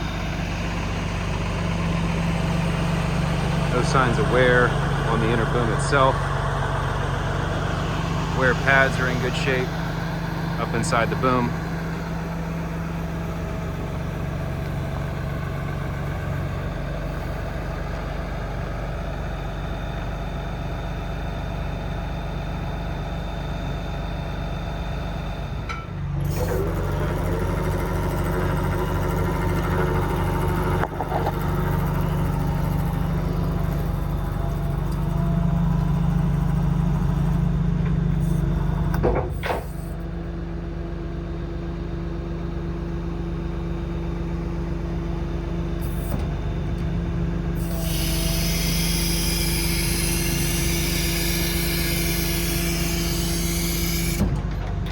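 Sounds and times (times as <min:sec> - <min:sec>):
crane hydraulics operating: 0:00.0 - 0:54.9
diesel engine running: 0:00.0 - 0:54.9.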